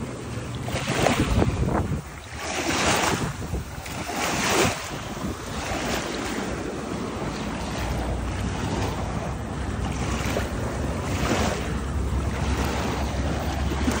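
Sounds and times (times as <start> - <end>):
small waves washing on sand: 0.0 - 14.0
wind buffeting microphone: 0.0 - 14.0.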